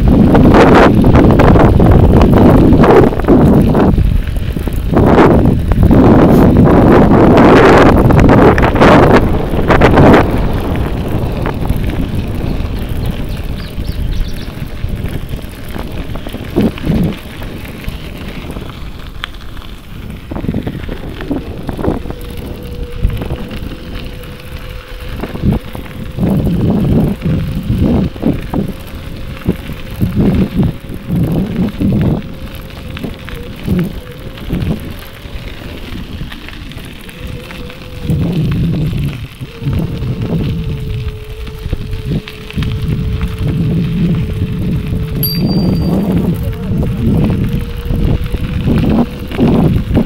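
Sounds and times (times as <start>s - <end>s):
bicycle tyres and frame rattling: 0.0s - 50.0s
wind buffeting microphone: 0.0s - 50.0s.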